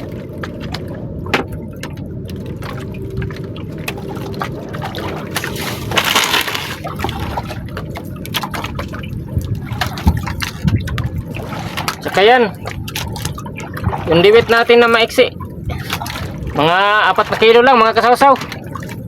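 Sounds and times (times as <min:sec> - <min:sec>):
water lapping around boat: 0:00.0 - 0:19.0
water splashing rush: 0:00.0 - 0:19.0.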